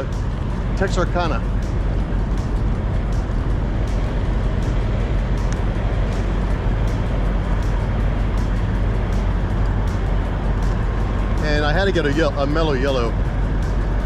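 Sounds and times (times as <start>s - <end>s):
passing traffic: 0.0s - 14.0s.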